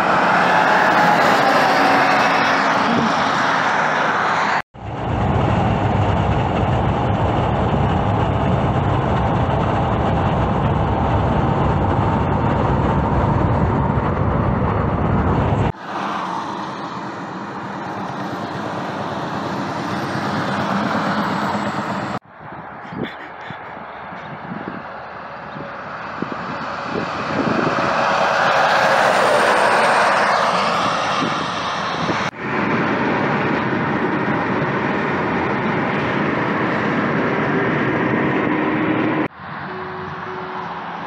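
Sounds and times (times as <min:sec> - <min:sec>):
highway traffic: 0:00.0 - 0:41.0
low road rumble: 0:00.0 - 0:41.0
truck passing: 0:00.0 - 0:41.0.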